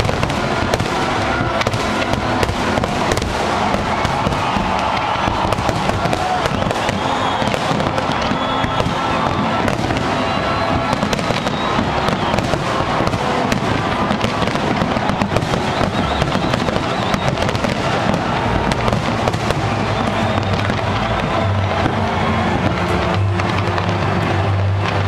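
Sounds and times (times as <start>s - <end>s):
fireworks bangs and crackling: 0.0s - 25.0s
music playing: 0.0s - 25.0s.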